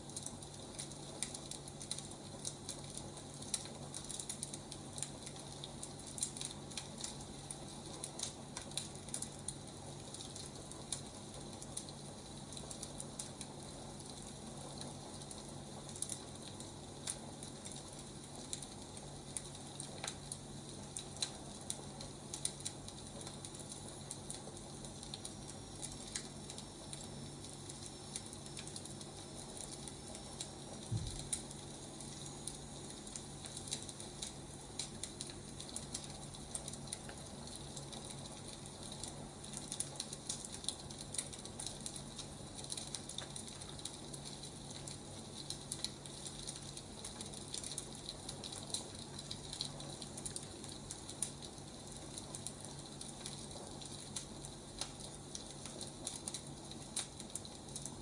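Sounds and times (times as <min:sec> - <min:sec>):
low steady hum: 0:00.0 - 0:58.0
wood fire crackling: 0:00.0 - 0:58.0.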